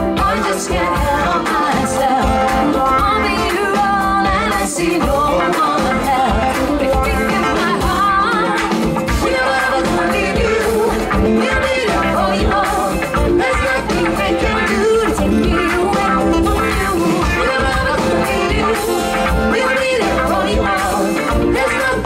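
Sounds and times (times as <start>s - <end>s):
live band playing dance song: 0.0s - 22.0s
person singing: 0.0s - 22.0s.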